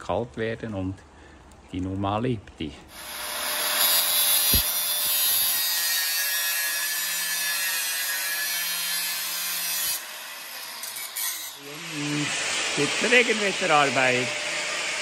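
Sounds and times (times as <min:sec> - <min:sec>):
angle grinder grinding steel: 0:02.9 - 0:15.0.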